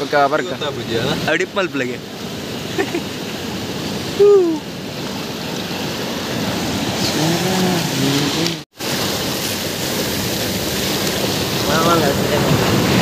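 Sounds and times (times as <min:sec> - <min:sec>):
sea surf over rocks: 0:00.0 - 0:13.0.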